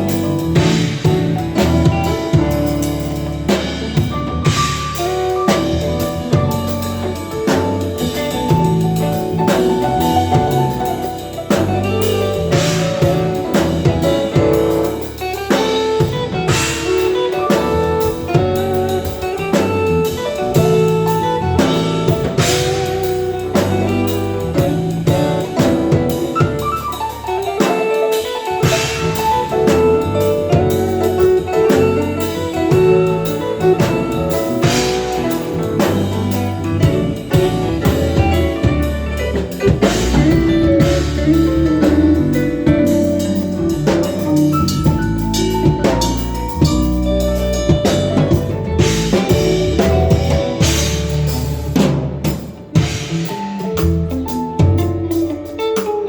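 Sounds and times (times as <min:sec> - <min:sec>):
drum kit: 0:00.0 - 0:56.0
live band playing: 0:00.0 - 0:56.0.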